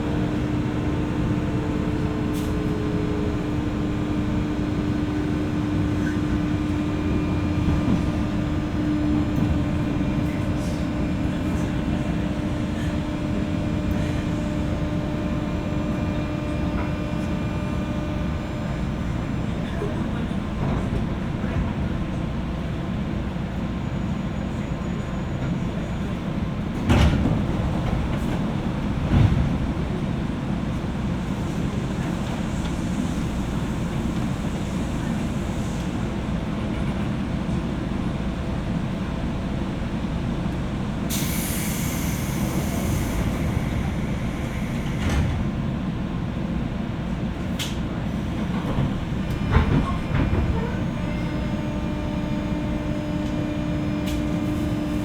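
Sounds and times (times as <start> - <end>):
electric train low rumble: 0.0 - 55.0.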